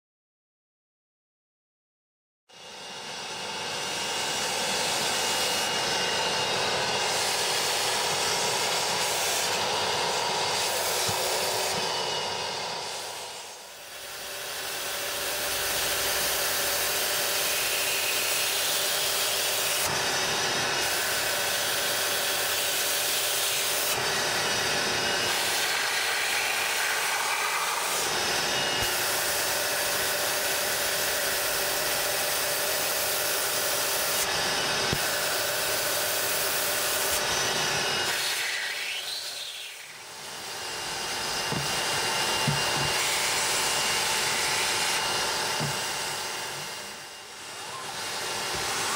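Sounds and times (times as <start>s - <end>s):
carpet cleaning machine vacuum: 2.5s - 48.9s.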